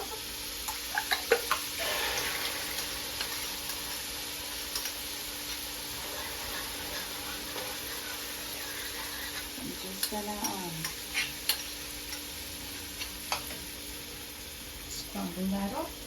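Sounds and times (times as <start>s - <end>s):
eggs sizzling in a frying pan: 0.0s - 16.0s.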